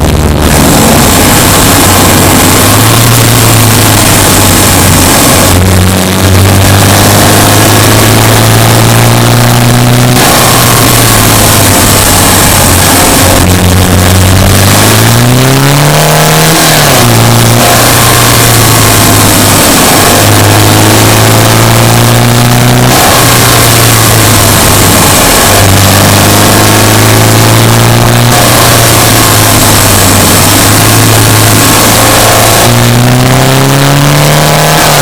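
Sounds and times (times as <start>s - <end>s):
car engine pulling under load: 0.0s - 35.0s
road noise hiss: 0.0s - 35.0s.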